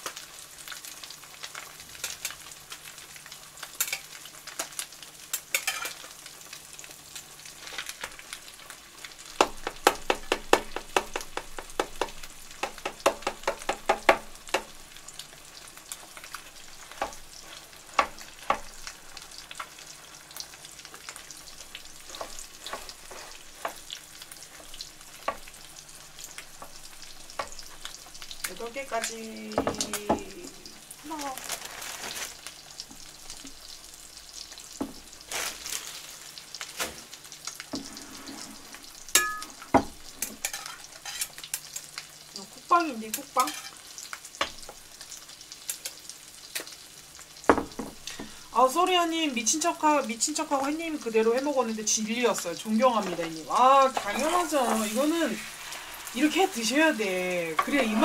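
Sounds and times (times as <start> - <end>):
clicks and pops of frying: 0.0 - 38.0, 38.6 - 58.0
food sizzling in butter: 0.0 - 58.0.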